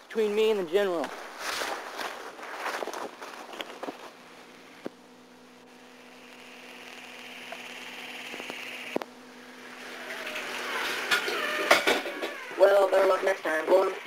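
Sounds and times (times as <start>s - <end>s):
electrical mains hum with hiss: 0.0s - 14.0s.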